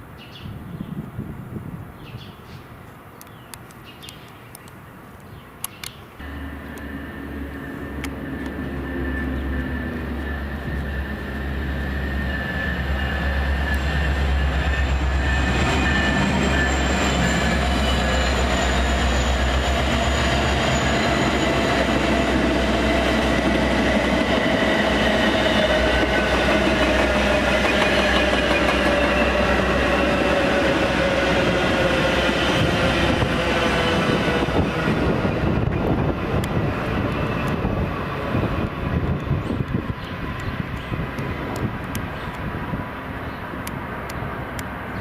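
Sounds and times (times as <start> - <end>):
train wheels rumbling on rail: 6.2 - 45.0.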